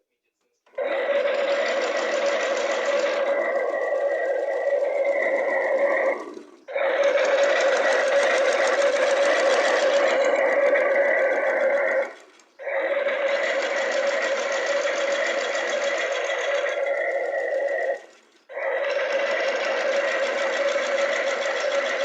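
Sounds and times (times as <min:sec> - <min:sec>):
small electric motor whining: 0:00.8 - 0:22.0.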